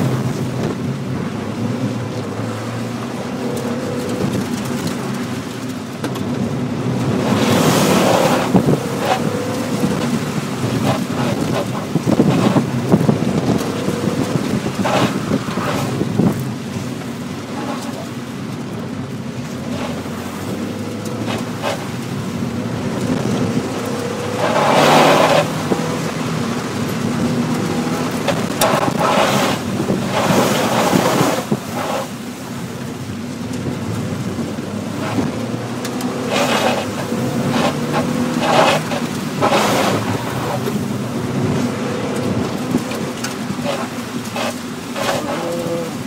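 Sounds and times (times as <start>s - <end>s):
car engine revving: 0.0s - 46.0s
water spraying from tyres: 0.0s - 46.0s.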